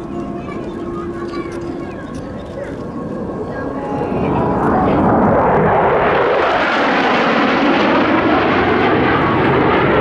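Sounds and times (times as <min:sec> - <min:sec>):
fighter jets flying overhead: 0:00.0 - 0:10.0.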